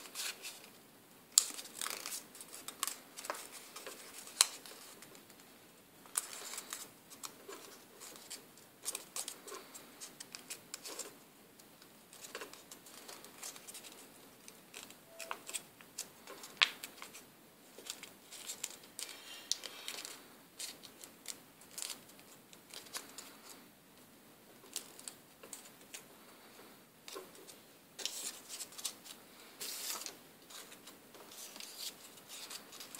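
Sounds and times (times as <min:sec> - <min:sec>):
paper crinkling: 0:00.0 - 0:11.2, 0:11.8 - 0:23.7, 0:27.1 - 0:32.9.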